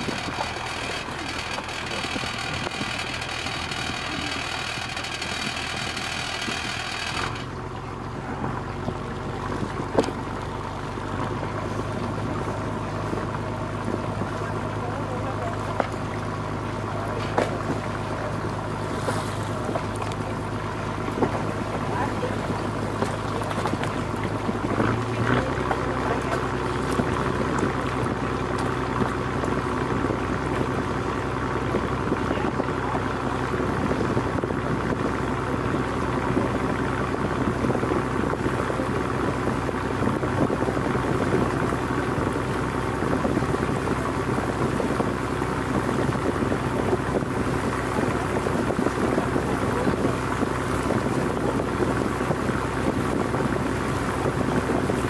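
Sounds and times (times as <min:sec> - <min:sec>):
boat engine humming: 0:00.0 - 0:55.0
rushing water: 0:00.0 - 0:55.0.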